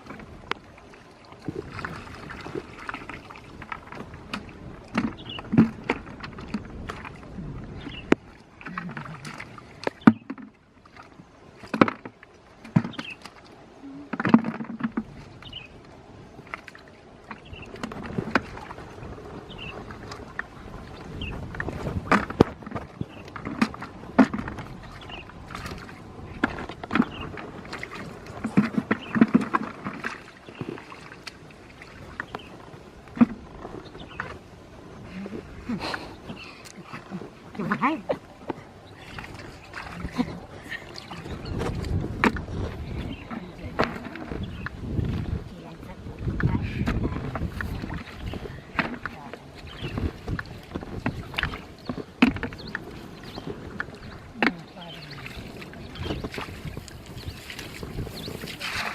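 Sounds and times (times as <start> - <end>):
water splashing and sloshing: 0.0 - 58.9.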